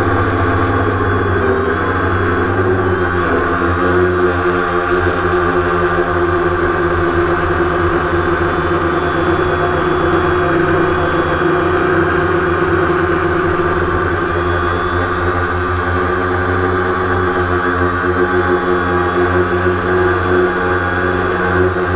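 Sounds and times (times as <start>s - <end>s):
drone propellers buzzing: 0.0s - 21.9s.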